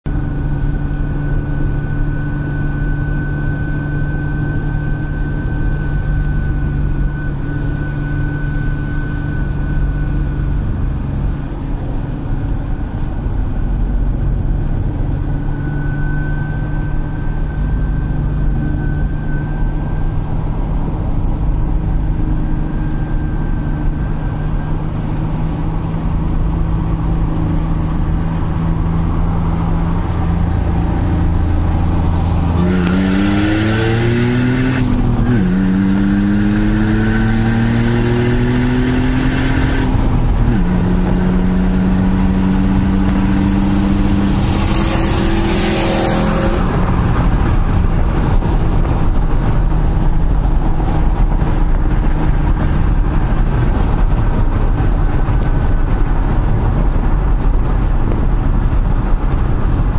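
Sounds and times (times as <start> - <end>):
vehicle engine droning: 0.0 - 59.9
high-pitched whine: 0.1 - 59.9.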